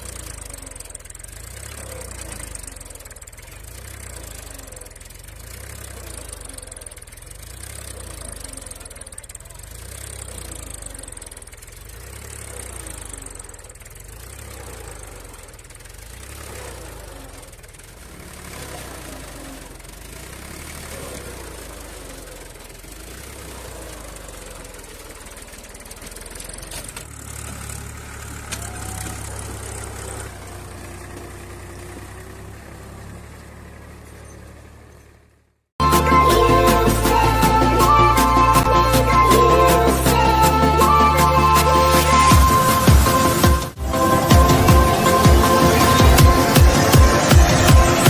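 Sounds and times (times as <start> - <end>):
tractor diesel engine rumbling: 0.0 - 48.0.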